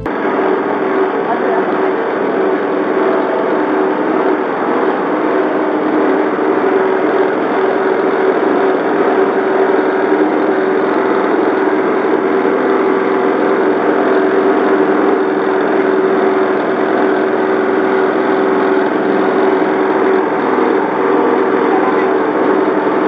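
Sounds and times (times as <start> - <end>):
pressing machine engine humming: 0.0 - 23.0.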